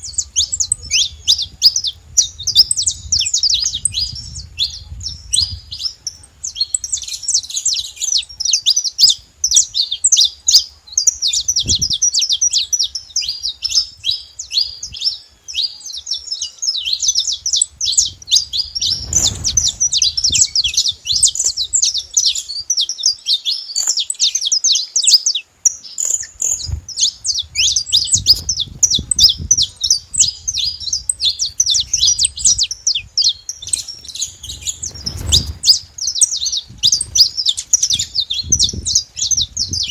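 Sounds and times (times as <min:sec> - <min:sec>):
finch chirping and trilling: 0:00.0 - 0:39.9.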